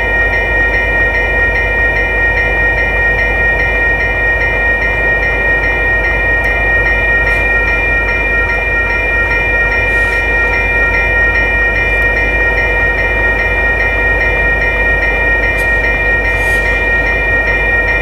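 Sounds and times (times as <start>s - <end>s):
grade-crossing bells ringing: 0.0s - 18.0s
freight cars rumbling: 2.5s - 18.0s.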